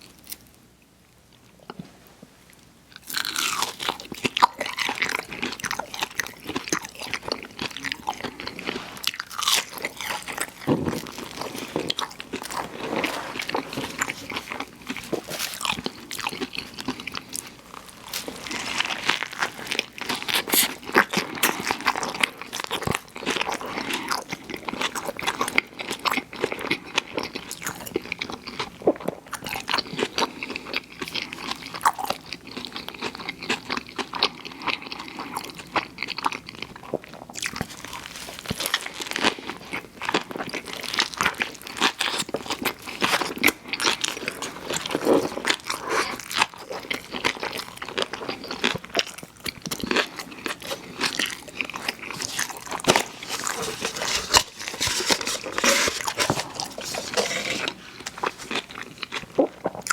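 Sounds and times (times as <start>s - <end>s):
crunchy eating and chewing: 1.2s - 59.9s.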